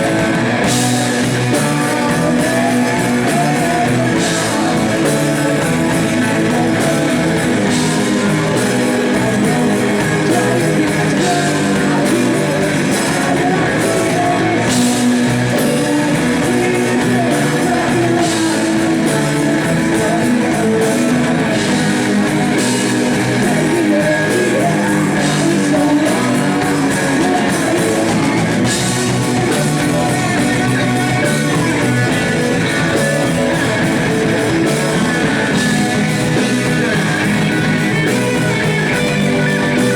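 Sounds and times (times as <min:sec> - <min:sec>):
blues-rock band playing: 0:00.0 - 0:39.9
person singing: 0:00.0 - 0:39.9.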